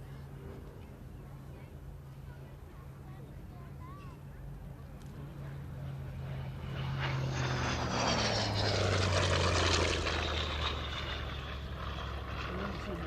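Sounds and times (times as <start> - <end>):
propeller aircraft flying past: 0.0 - 13.0.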